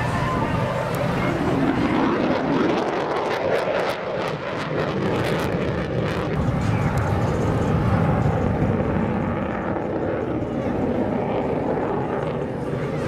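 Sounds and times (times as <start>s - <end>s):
jet aircraft flying over: 0.0s - 13.0s.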